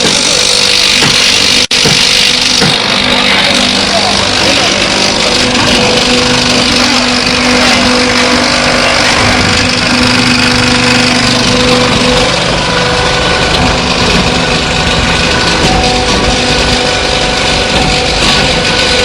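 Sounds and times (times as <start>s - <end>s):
concrete pump running: 0.0s - 19.0s.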